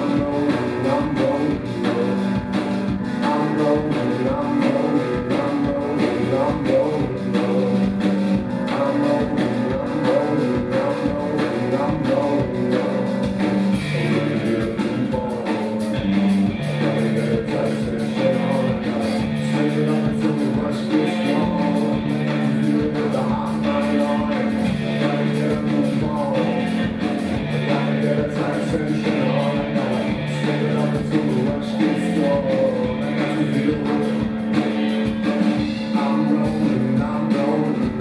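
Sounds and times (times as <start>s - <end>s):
guitar: 0.0s - 38.0s
repeating bass line: 0.0s - 38.0s
rock band playing live: 0.0s - 38.0s
steady drum beat: 0.0s - 38.0s.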